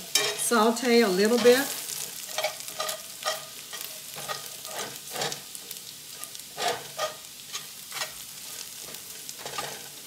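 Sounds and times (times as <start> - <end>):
metal spatula scraping skillet: 0.0 - 0.6, 1.2 - 10.0
garlic sizzling: 0.0 - 10.0.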